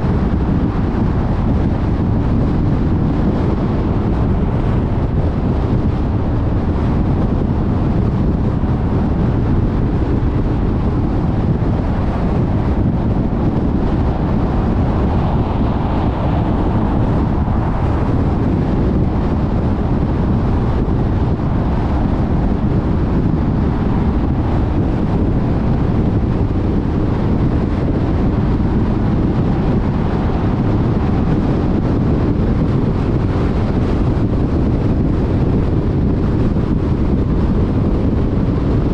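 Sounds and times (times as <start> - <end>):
tyre and wind noise: 0.0 - 38.9.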